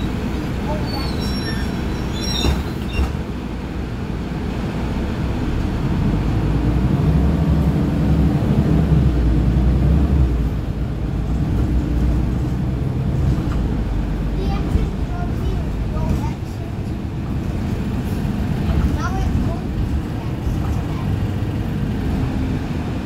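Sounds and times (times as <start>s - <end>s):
bus diesel engine: 0.0s - 23.0s.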